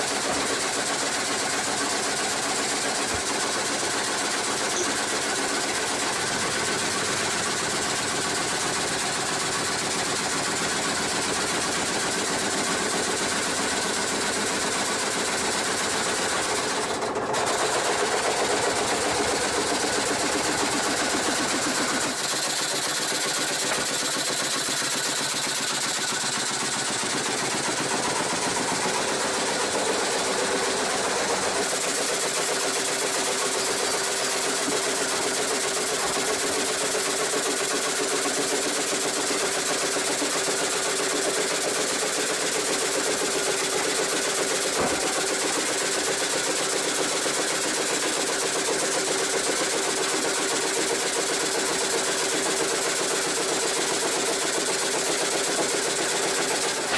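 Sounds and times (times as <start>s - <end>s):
machinery engine rattling: 0.0s - 56.9s.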